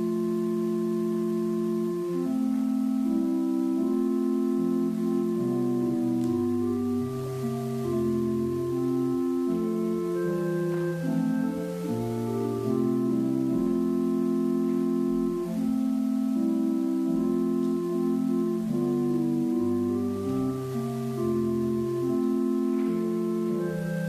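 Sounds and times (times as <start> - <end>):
organ playing sustained chords: 0.0 - 24.0.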